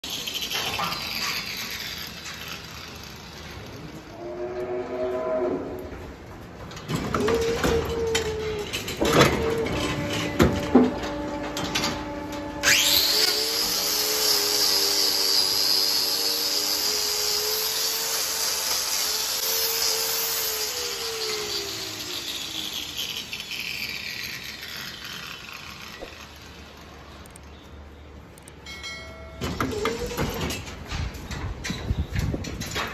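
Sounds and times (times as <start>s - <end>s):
angle grinder grinding hoof: 0.0s - 27.7s.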